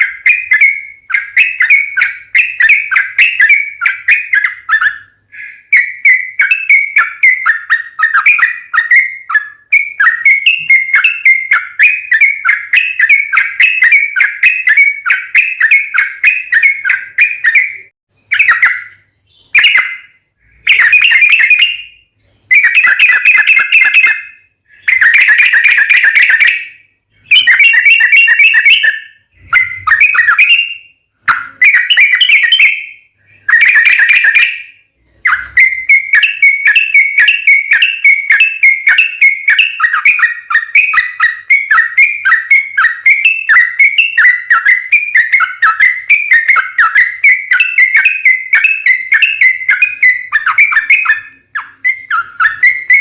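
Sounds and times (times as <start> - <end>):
bulbul chattering song: 0.0 - 53.0.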